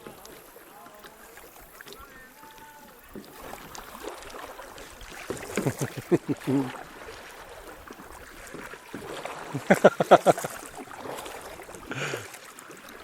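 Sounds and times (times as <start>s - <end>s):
paddle splashes and knocks: 0.0s - 13.0s
water moving around boats: 0.0s - 13.0s.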